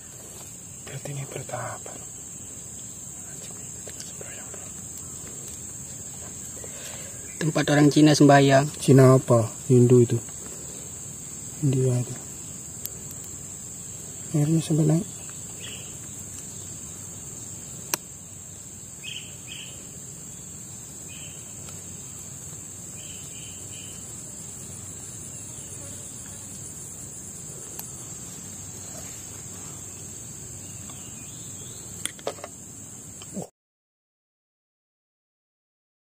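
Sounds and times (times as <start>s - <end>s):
insects droning: 0.0s - 33.5s.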